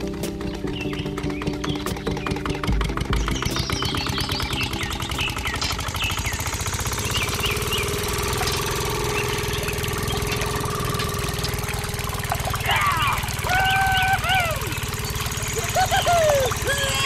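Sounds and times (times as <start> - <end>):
birds chirping: 0.0 - 17.0
model engine chugging: 0.0 - 17.0.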